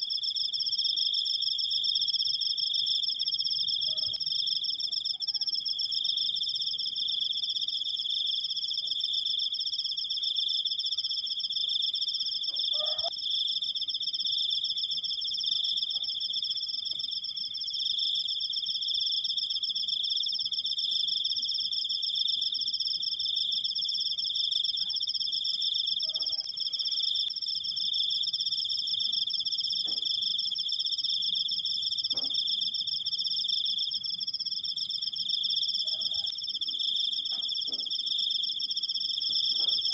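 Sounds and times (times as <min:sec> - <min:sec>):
cricket trilling: 0:00.0 - 0:39.9.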